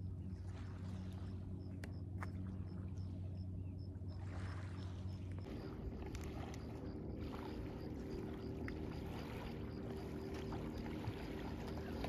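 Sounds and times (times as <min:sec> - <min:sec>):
steady low drone: 0:00.0 - 0:12.0.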